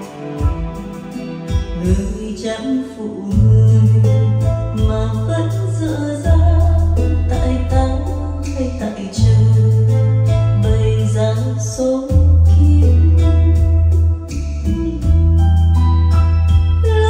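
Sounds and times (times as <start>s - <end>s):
ballad over speakers: 0.0s - 17.0s
deep bass notes: 3.3s - 17.0s.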